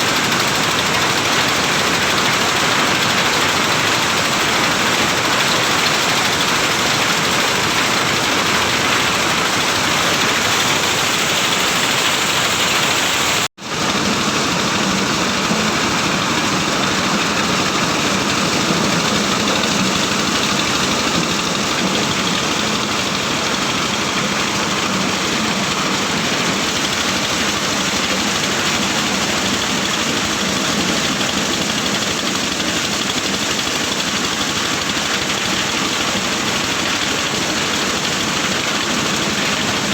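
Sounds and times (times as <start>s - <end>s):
cobs rattling in thresher: 0.0s - 39.9s
corn sheller motor droning: 0.0s - 39.9s.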